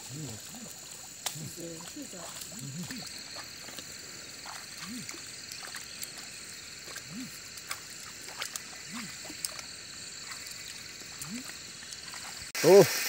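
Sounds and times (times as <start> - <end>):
frogs calling: 0.0 - 13.0
high insect drone: 0.0 - 13.0
faint ticks: 0.4 - 12.4.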